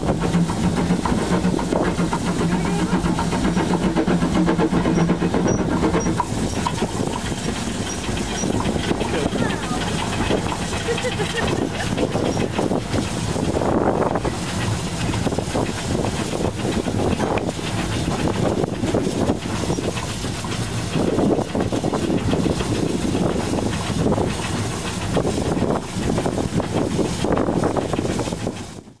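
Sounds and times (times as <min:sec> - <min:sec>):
steam locomotive rumble: 0:00.0 - 0:29.0
wind buffeting microphone: 0:00.0 - 0:29.0.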